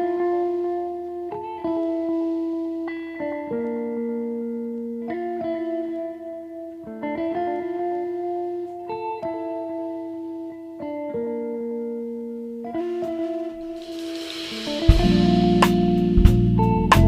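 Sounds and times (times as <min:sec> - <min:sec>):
clean electric guitar chords: 0:00.0 - 0:17.0.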